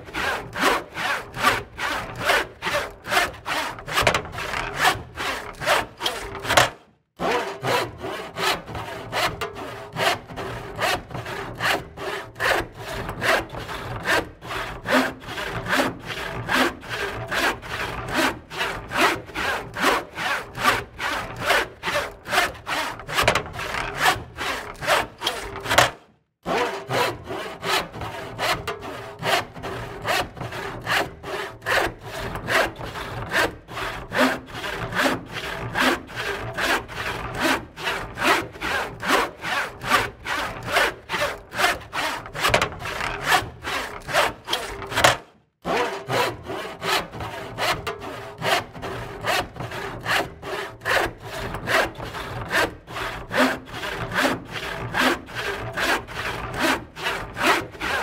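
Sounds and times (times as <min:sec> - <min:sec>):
hand saw cutting wood: 0:00.0 - 0:58.0.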